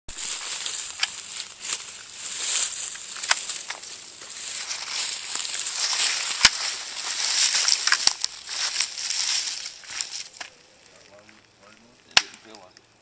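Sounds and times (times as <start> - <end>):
rustling and crunching: 0.1 - 12.8.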